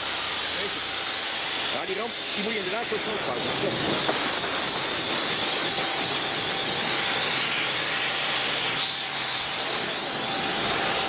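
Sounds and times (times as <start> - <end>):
pressure washer spraying: 0.0 - 11.0.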